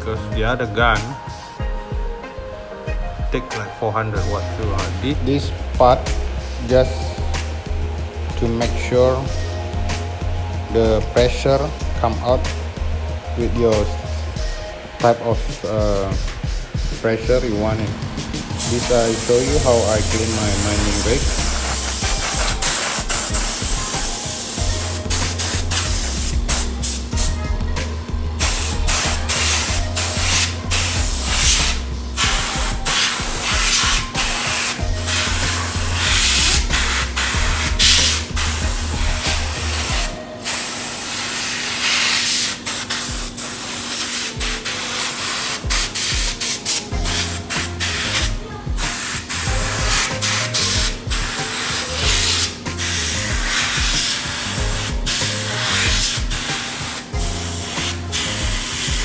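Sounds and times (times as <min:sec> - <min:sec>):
compressed air blow gun hissing: 0:03.5 - 0:59.0.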